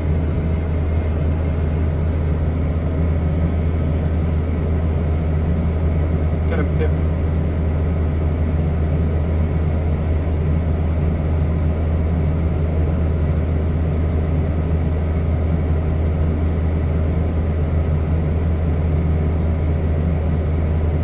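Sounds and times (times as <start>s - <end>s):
loader diesel engine running: 0.0s - 21.0s.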